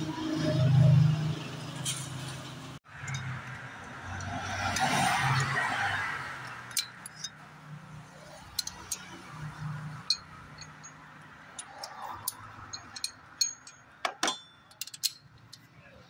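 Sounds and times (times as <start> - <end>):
metal tools clinking: 2.9 - 15.9.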